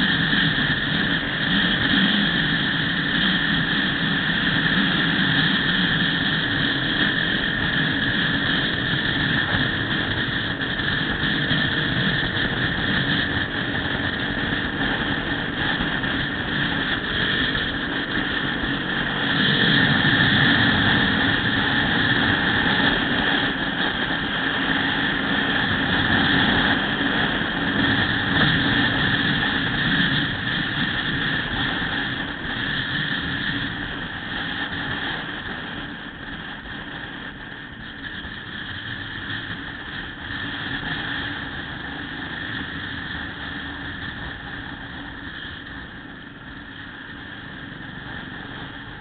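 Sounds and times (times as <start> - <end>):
motorcycle engine and tyre noise: 0.0 - 49.0
wind rushing over microphone: 0.0 - 49.0.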